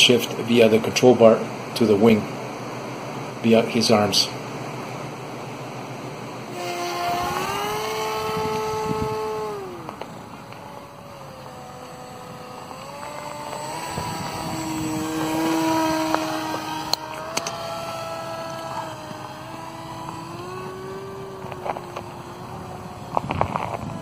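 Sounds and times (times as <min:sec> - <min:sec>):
model aircraft propeller whine: 0:00.0 - 0:24.0.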